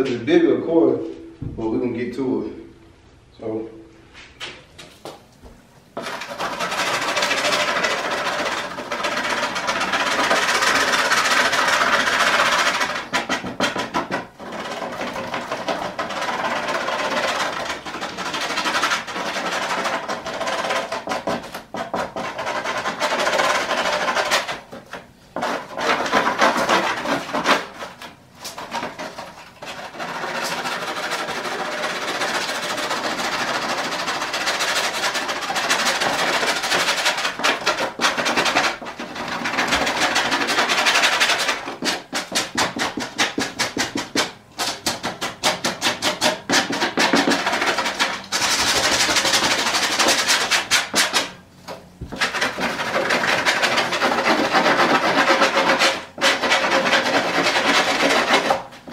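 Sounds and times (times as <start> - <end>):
hand tool scraping foam: 6.0 - 51.4, 52.0 - 58.9.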